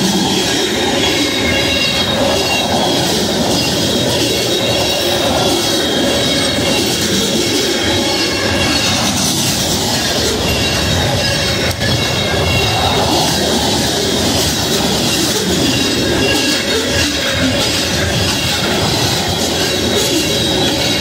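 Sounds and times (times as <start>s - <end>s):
high wheel squeal: 0.0s - 21.0s
train wheels rumbling on rail: 0.0s - 21.0s.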